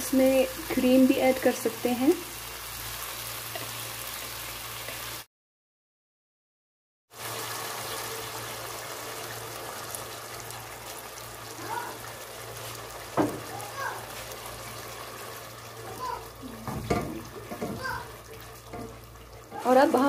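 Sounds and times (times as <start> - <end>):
sauce sizzling in a frying pan: 0.0 - 5.3, 7.1 - 20.0.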